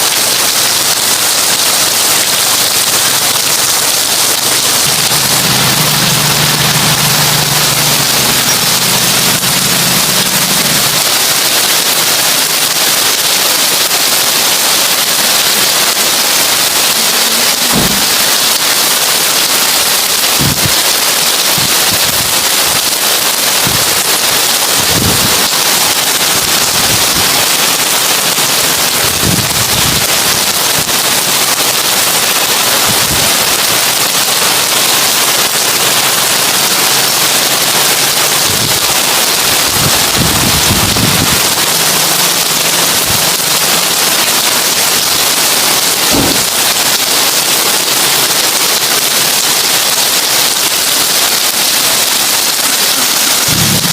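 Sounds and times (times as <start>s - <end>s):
heavy rain on a tin roof: 0.0s - 53.9s.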